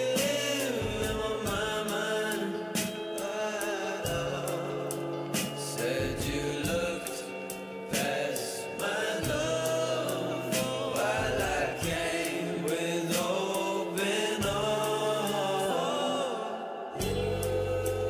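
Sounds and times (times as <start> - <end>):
song with vocals and beat: 0.0 - 18.0.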